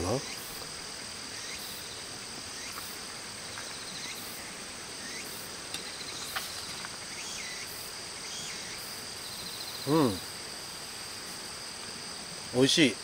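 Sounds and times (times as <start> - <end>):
insects singing: 0.0 - 13.0.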